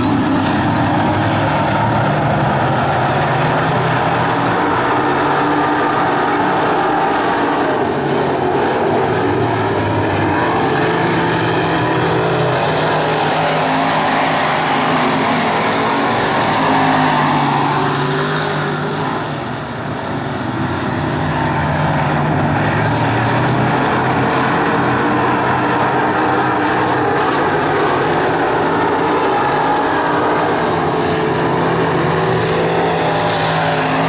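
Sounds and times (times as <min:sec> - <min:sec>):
race car engines running hard: 0:00.0 - 0:34.0.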